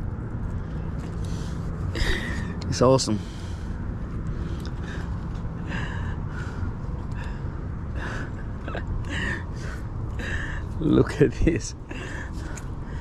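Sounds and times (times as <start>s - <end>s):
man breathing: 1.0s - 10.8s, 11.8s - 13.0s.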